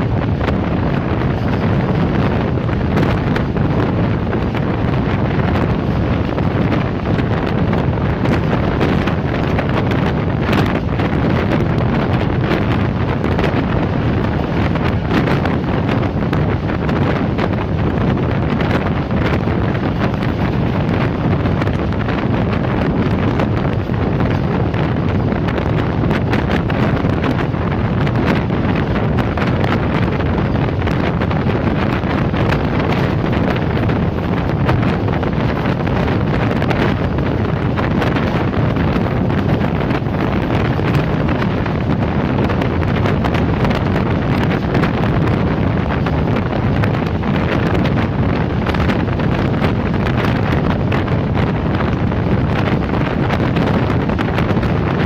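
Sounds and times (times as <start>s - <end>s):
passenger train wheels rolling: 0.0s - 55.0s
wind buffeting microphone: 0.0s - 55.0s.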